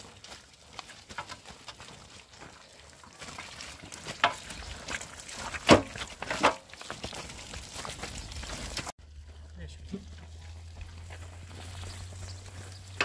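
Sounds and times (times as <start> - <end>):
wheelbarrow rattling over stones: 0.0 - 13.0.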